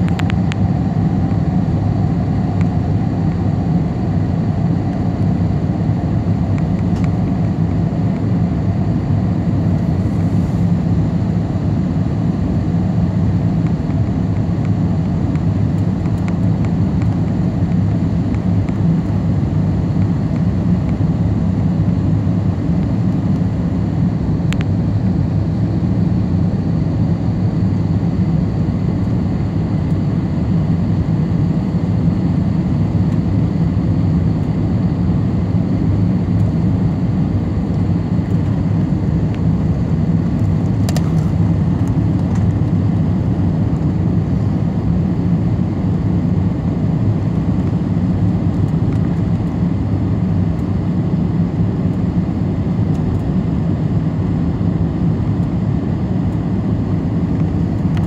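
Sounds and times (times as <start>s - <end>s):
airliner jet engines: 0.0s - 58.0s.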